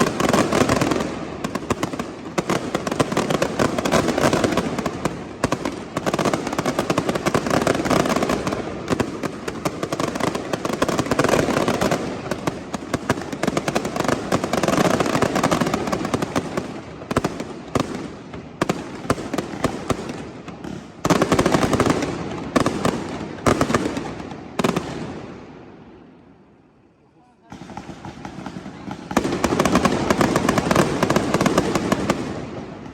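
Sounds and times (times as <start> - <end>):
fireworks cracks and bangs: 0.0 - 26.2, 27.2 - 32.9.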